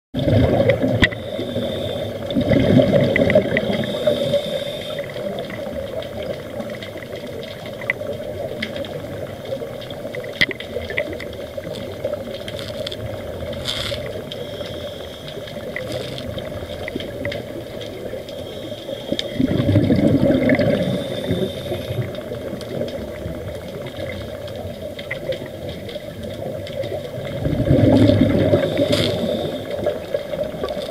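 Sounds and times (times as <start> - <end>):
diver's bubbles rushing: 0.2 - 1.3, 2.2 - 14.4, 19.3 - 30.9
steady underwater background: 0.2 - 30.9
faint clicks: 0.6 - 30.9.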